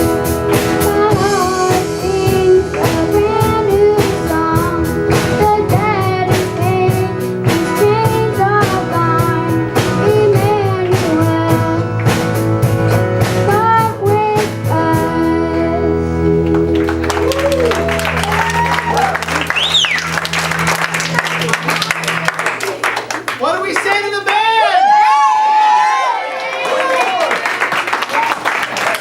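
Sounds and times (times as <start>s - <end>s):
drum kit beat: 0.0s - 15.4s, 16.5s - 24.5s
guitar: 0.0s - 23.3s.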